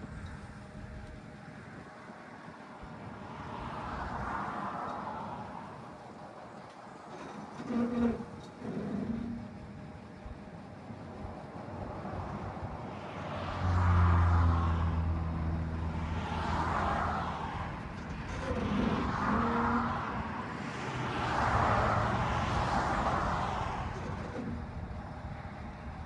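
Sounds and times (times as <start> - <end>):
truck diesel engine at low speed: 0.0 - 26.0.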